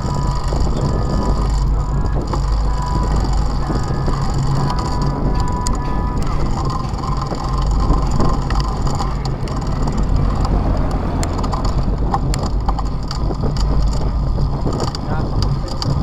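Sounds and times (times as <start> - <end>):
bike riding rumble: 0.0 - 16.0.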